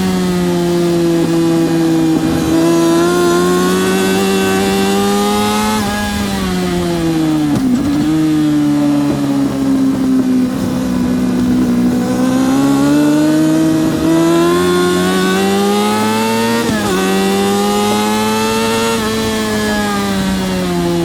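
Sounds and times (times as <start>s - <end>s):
motorcycle engine accelerating hard: 0.0s - 21.0s.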